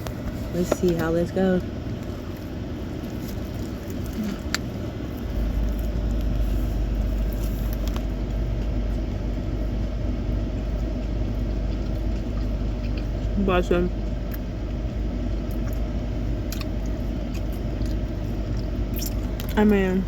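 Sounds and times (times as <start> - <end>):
motor vehicle rumble: 0.0 - 20.0.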